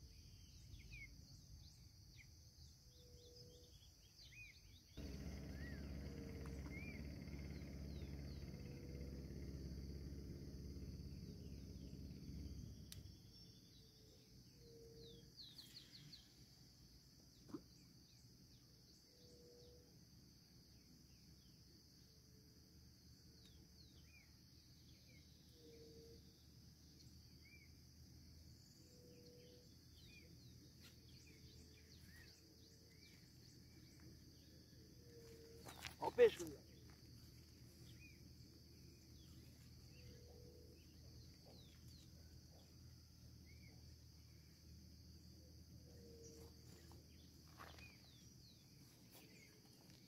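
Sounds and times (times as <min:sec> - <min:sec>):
high insect drone: 0:05.0 - 0:50.0.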